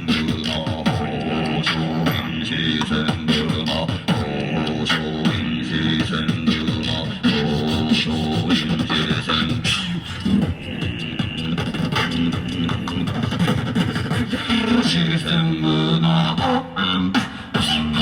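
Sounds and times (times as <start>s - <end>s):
person beatboxing: 0.0s - 18.0s.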